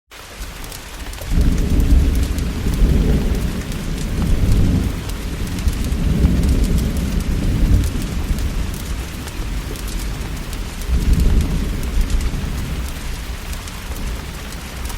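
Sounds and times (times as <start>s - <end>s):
heavy rain hissing: 0.1s - 14.9s
rolling thunder rumble: 1.2s - 14.9s.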